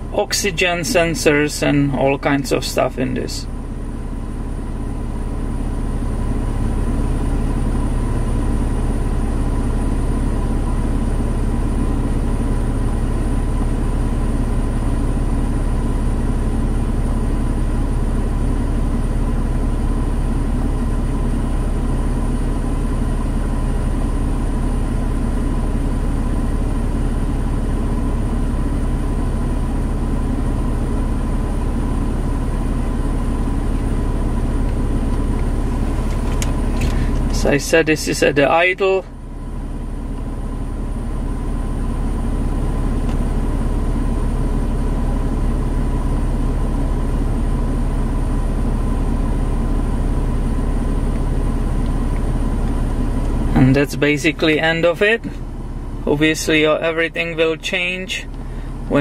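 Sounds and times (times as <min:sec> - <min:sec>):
air conditioning running: 0:00.0 - 0:59.0
car engine idling: 0:00.0 - 0:59.0.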